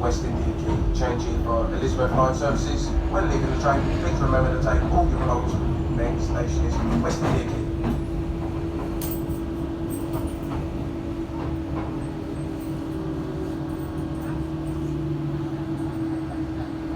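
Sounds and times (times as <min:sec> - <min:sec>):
train interior rumble: 0:00.0 - 0:16.9.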